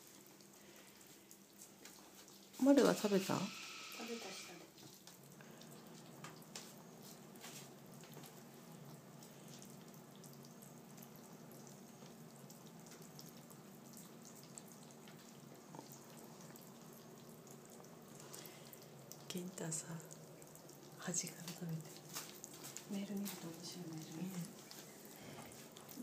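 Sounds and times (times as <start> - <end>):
ferrets lapping food: 0.0 - 3.2, 4.7 - 26.0.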